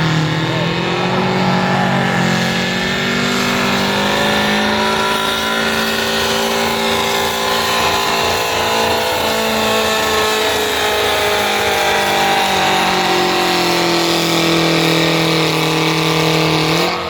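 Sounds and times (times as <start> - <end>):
engine running hard under load: 0.0 - 17.0.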